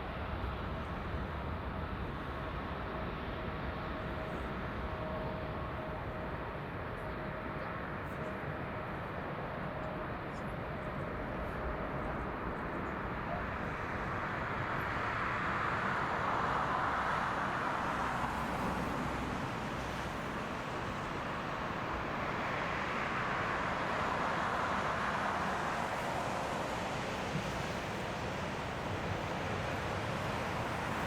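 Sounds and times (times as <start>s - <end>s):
distant jet engines rushing: 0.0s - 31.0s.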